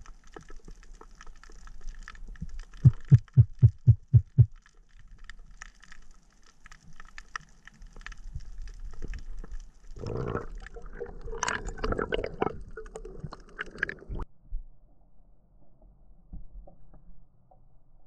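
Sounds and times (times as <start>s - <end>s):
water swishing and gurgling: 0.0s - 18.0s.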